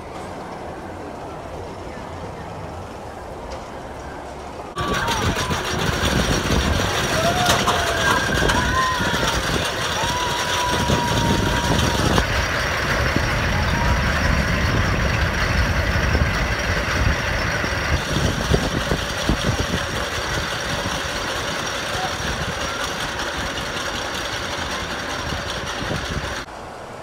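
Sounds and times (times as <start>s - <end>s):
roller coaster clattering: 0.0s - 26.5s
roller coaster wheels rumbling on rail: 0.0s - 27.0s.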